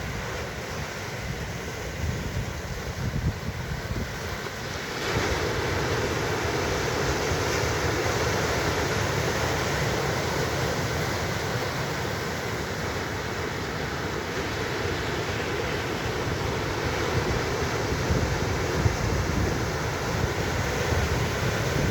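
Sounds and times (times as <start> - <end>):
ocean waves washing in: 0.0 - 21.9.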